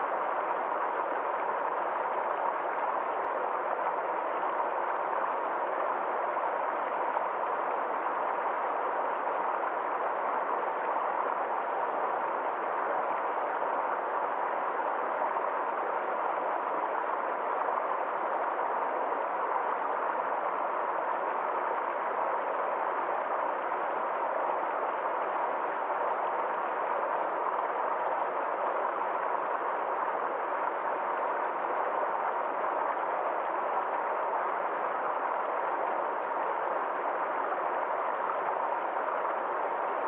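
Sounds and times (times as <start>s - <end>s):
stream flowing: 0.0s - 40.0s.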